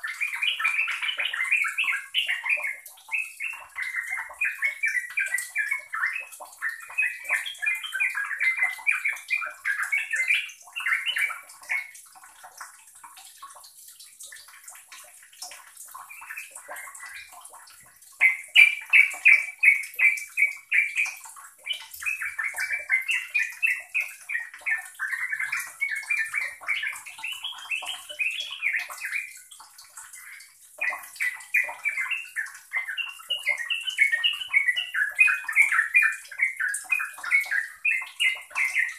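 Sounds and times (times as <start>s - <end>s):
bird chattering song: 0.0s - 12.0s, 18.2s - 38.9s.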